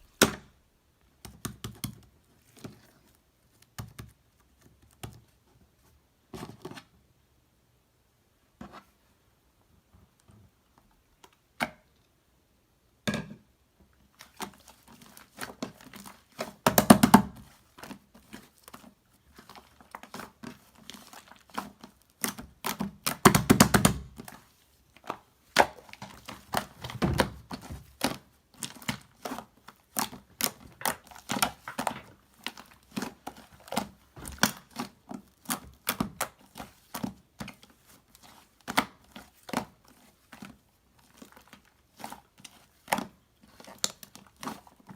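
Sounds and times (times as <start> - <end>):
crinkling and rustling by hand: 0.0 - 7.3, 8.3 - 12.3, 13.4 - 44.9.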